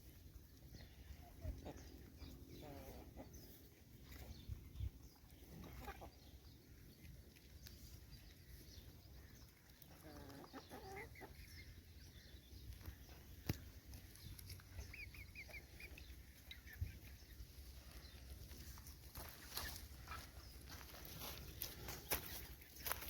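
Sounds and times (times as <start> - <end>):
chicken clucking: 0.6 - 4.6, 5.2 - 13.2, 13.9 - 22.8.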